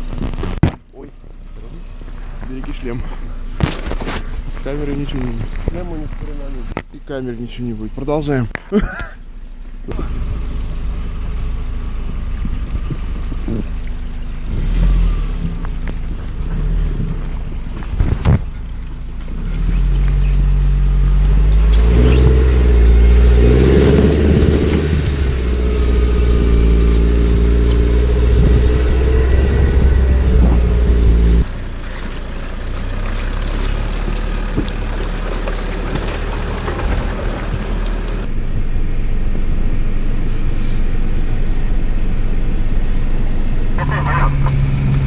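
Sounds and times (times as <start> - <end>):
off-road vehicle engine revving: 0.0 - 45.0.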